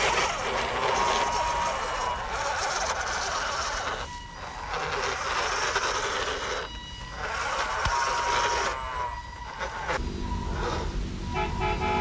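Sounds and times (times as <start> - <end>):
grass rustling: 0.0 - 10.0
toy truck wheels rolling: 0.0 - 10.0.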